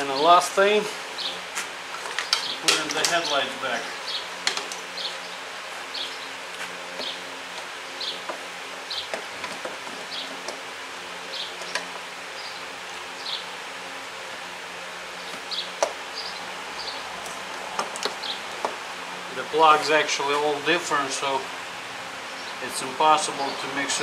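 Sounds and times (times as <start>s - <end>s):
low buzzing hum: 0.0s - 24.0s.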